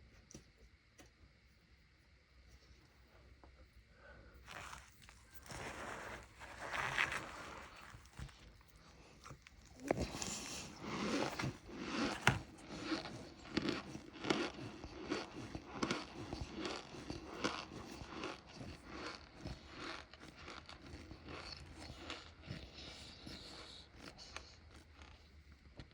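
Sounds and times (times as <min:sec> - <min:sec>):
cornstarch crunching: 0:04.4 - 0:25.8.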